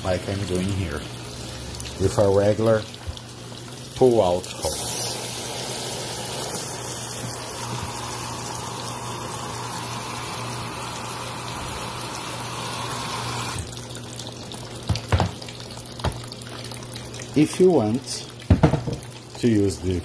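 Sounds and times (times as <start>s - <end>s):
water spraying into tub: 0.0s - 19.5s.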